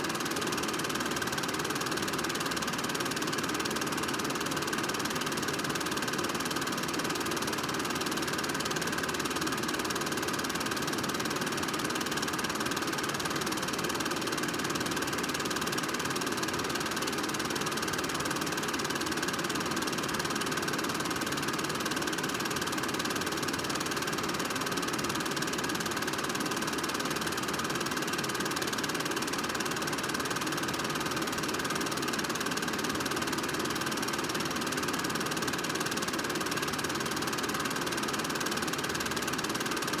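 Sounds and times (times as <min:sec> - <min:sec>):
film projector whirring: 0:00.0 - 0:40.0.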